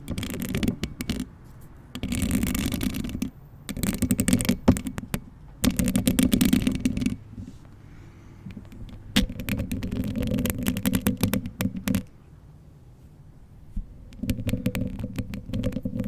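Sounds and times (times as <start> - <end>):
nails rubbing and clicking on microphone: 0.0 - 7.8, 8.4 - 12.2, 13.7 - 16.0.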